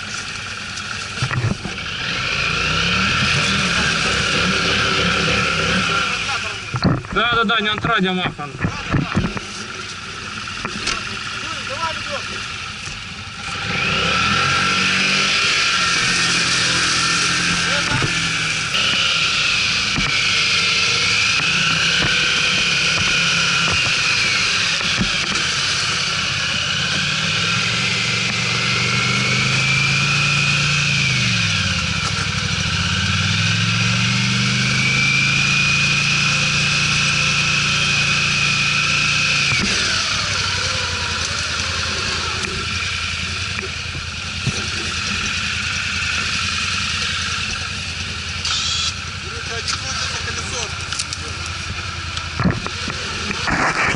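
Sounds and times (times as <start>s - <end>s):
atv engine running under load: 0.0s - 53.9s
high whine: 0.0s - 53.9s.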